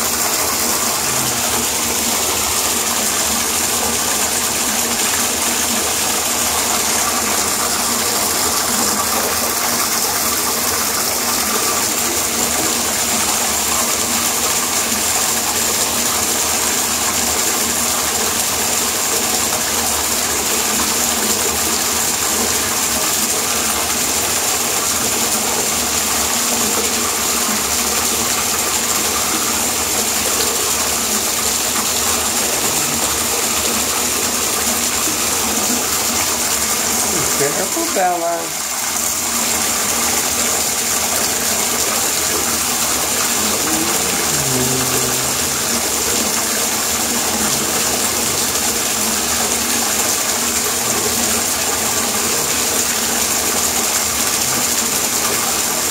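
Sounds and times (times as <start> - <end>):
water gushing into bathtub: 0.0 - 55.9.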